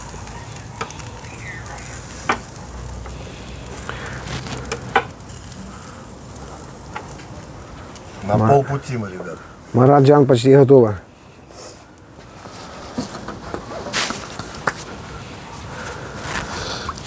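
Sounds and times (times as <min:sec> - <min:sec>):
meat sizzling over charcoal: 0:00.0 - 0:17.0.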